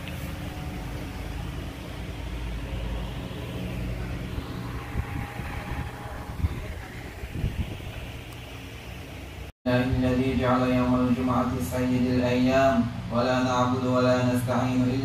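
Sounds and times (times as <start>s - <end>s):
fans and air conditioning hum: 0.0s - 15.0s.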